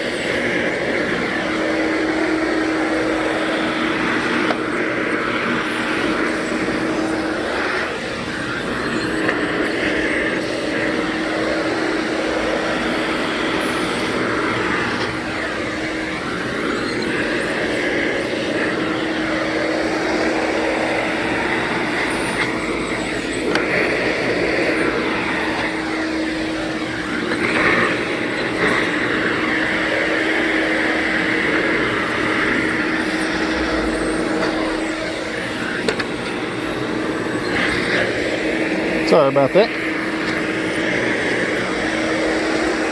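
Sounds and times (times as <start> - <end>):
vacuum cleaner on carpeted stairs: 0.0 - 42.9.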